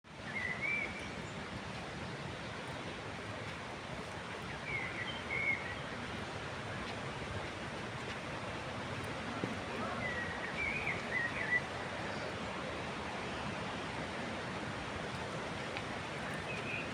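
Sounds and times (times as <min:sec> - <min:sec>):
waterfall rushing: 0:02.6 - 0:16.9.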